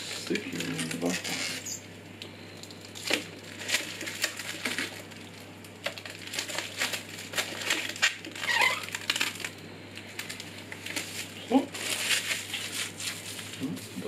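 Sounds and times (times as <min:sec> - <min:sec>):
plastic film peeling and crackling: 0:00.0 - 0:14.0.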